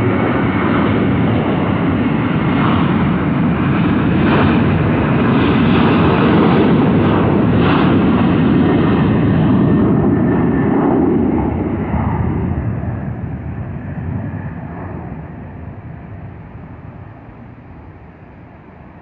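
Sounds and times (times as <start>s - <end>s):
passing airliner engine noise: 0.0s - 19.0s.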